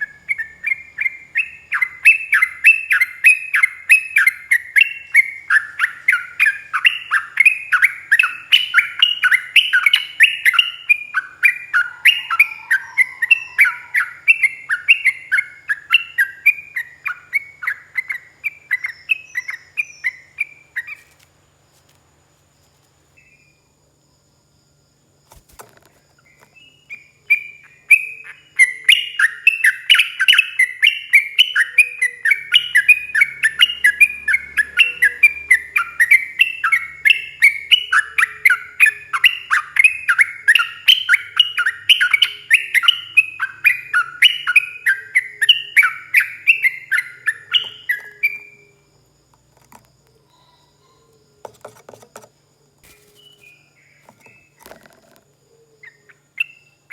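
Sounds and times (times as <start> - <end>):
bird singing rapid chattering: 0.0 - 21.2, 25.4 - 48.8, 49.4 - 56.9.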